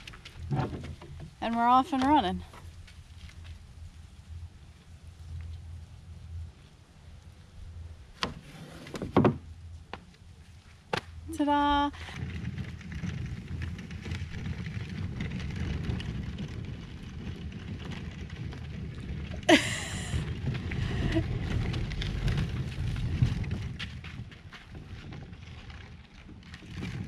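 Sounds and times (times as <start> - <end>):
trolley wheels rolling on gravel: 0.0 - 27.0.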